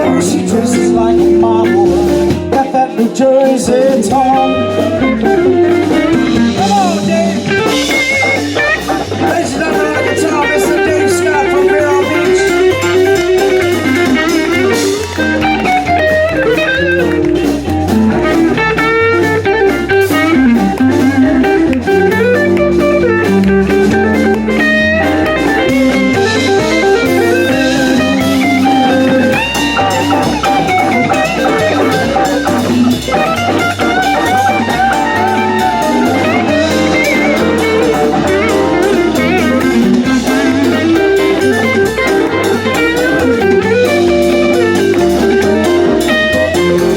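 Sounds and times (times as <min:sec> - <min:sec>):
electric guitar: 0:00.0 - 0:46.9
live blues band: 0:00.0 - 0:46.9.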